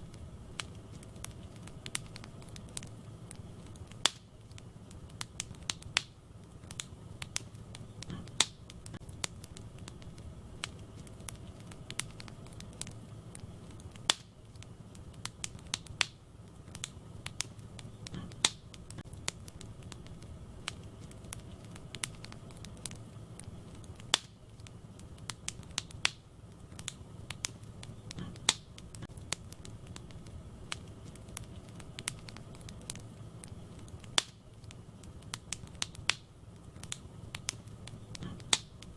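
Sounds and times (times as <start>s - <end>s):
fire rumbling: 0.0s - 38.9s
wood crackling and popping: 0.0s - 38.9s.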